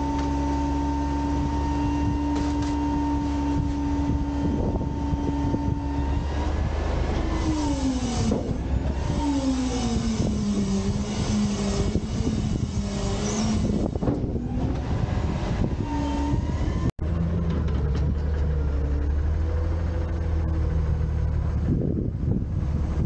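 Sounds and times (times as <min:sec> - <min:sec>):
garbage truck engine revving: 0:00.0 - 0:23.0.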